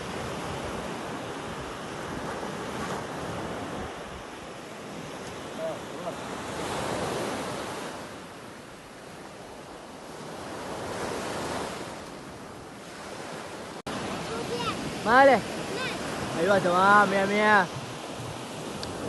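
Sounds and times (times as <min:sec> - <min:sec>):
sea waves: 0:00.0 - 0:19.0
wind on microphone: 0:00.0 - 0:19.0.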